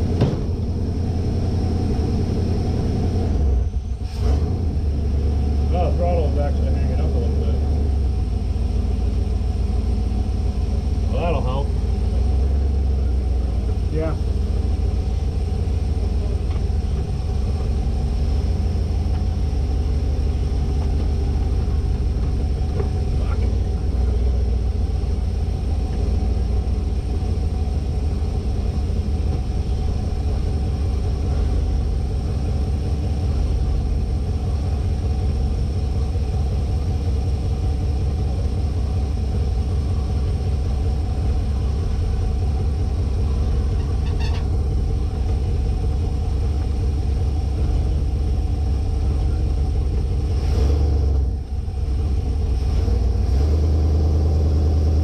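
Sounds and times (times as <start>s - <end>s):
motorhome engine running: 0.0s - 55.0s.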